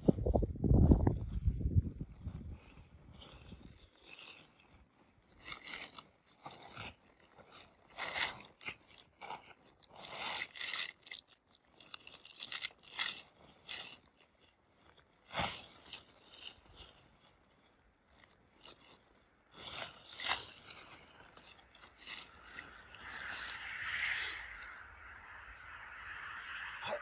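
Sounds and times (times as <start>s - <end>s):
tent fabric rustling: 1.0s - 26.3s
plastic tarp crinkling: 2.1s - 24.8s.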